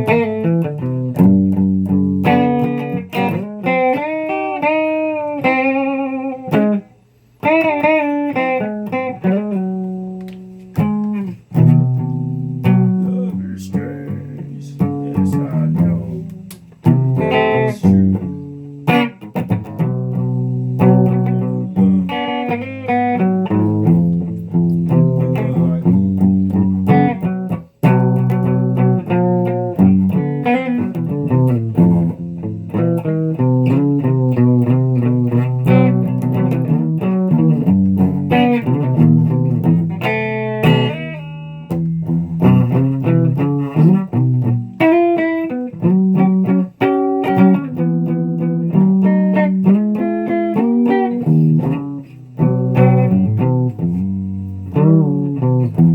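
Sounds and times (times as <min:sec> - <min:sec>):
guitar plucked notes and chords: 0:00.0 - 0:55.9.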